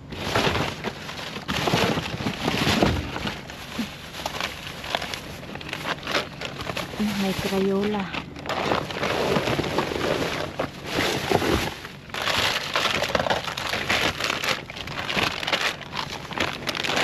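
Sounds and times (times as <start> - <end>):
plastic bags and cardboard rustling: 0.0 - 17.0.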